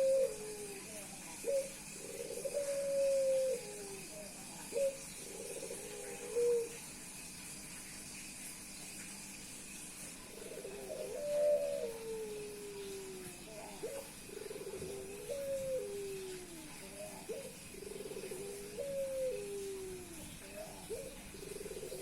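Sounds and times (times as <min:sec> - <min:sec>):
dove cooing: 0:00.0 - 0:06.9, 0:10.3 - 0:22.0.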